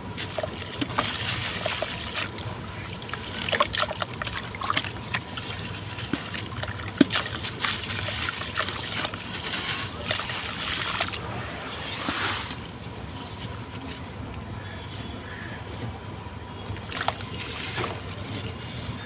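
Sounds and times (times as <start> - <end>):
small splashes: 0.0 - 14.1, 16.6 - 19.0
gritty crackles of crumbling blocks: 0.0 - 19.0.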